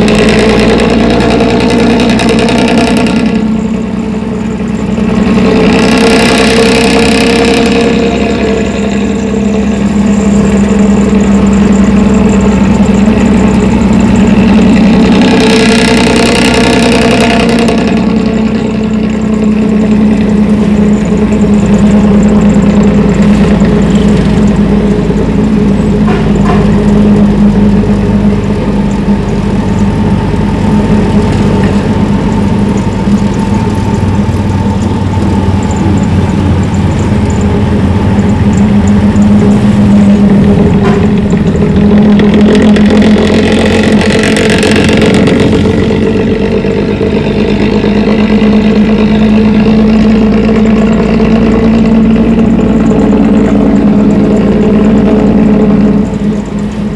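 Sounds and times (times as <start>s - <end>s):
bus diesel engine droning: 0.0s - 56.9s.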